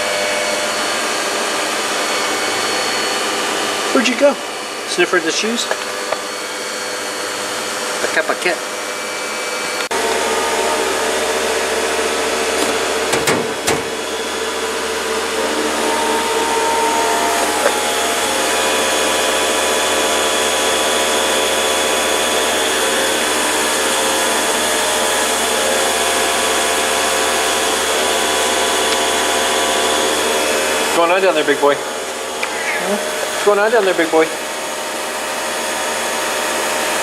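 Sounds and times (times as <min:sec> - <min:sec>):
machine motor whining and humming: 0:00.0 - 0:37.0.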